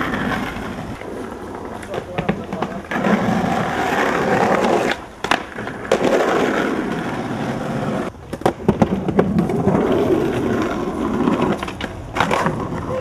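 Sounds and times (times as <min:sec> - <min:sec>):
skateboard clacking on ground: 0:00.0 - 0:13.0
skateboard wheels rolling on concrete: 0:00.0 - 0:13.0.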